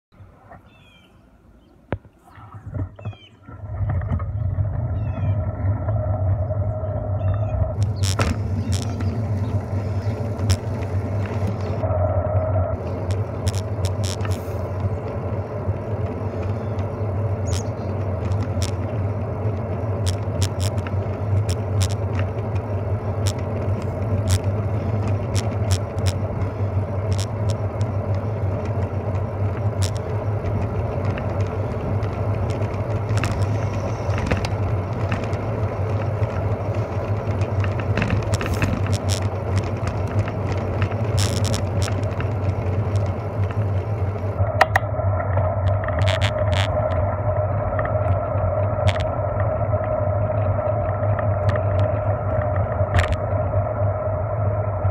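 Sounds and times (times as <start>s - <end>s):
road and wind noise: 0.1s - 54.9s
bicycle clicks and rattles: 7.0s - 11.9s, 12.7s - 53.5s.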